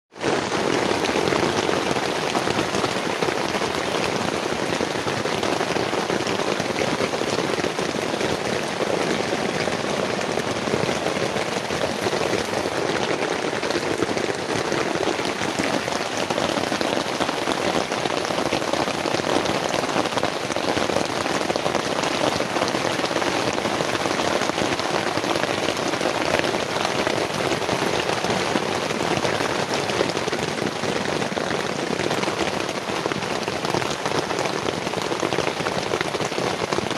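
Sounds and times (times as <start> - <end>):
heavy rain on a tent: 0.0 - 36.9.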